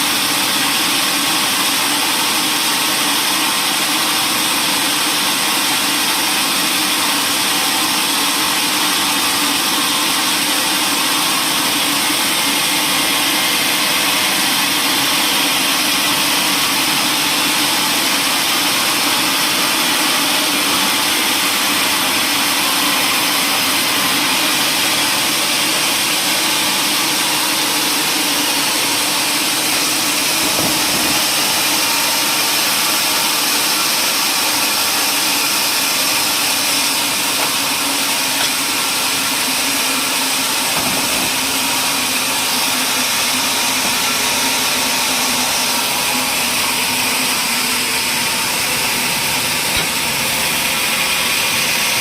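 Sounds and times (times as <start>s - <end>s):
woodworking machinery running: 0.0s - 52.0s.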